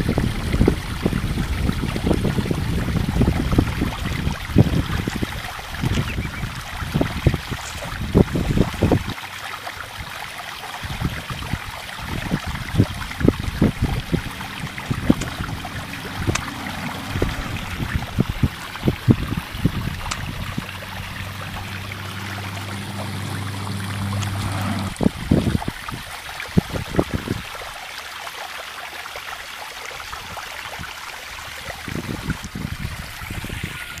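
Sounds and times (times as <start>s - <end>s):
wind buffeting microphone: 0.0s - 9.2s, 10.8s - 27.6s, 31.7s - 34.0s.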